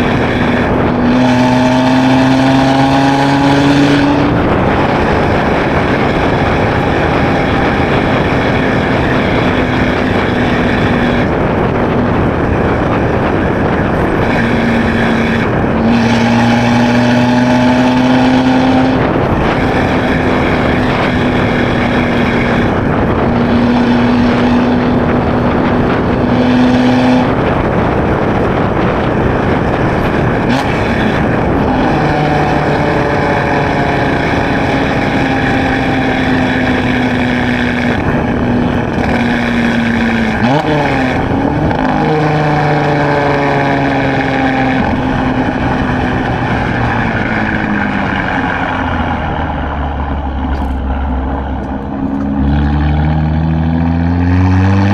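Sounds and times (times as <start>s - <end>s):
car exhaust droning: 0.0s - 54.9s
wind and road noise: 0.0s - 54.9s.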